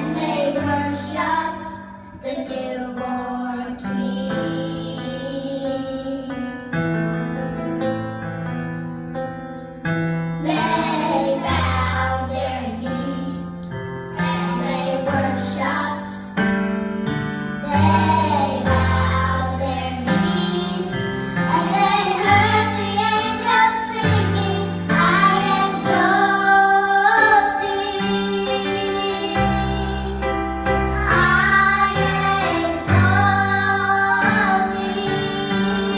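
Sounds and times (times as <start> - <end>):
piano accompaniment: 0.0 - 35.9.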